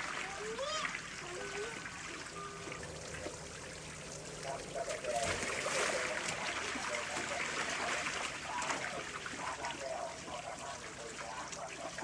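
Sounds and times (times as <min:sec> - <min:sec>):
children splashing: 0:00.0 - 0:03.6, 0:04.4 - 0:12.0
water spraying from jets: 0:00.0 - 0:12.0.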